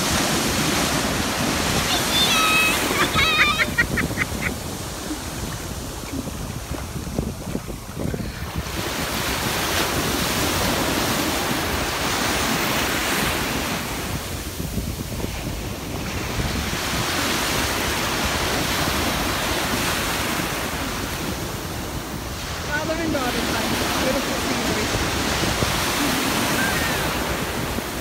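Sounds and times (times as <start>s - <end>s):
surf washing onto beach: 0.0s - 28.0s
wind on microphone: 0.0s - 28.0s.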